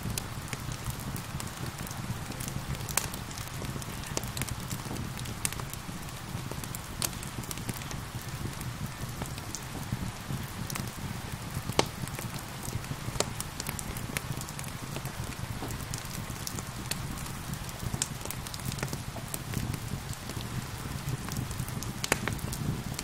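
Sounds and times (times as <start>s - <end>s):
steady rain: 0.0s - 23.0s
wood fire crackling: 0.0s - 23.0s.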